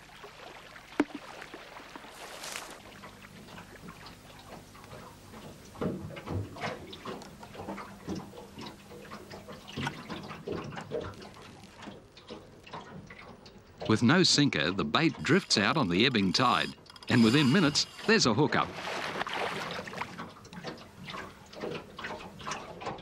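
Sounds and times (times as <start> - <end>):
water splashing and dripping: 0.0 - 23.0.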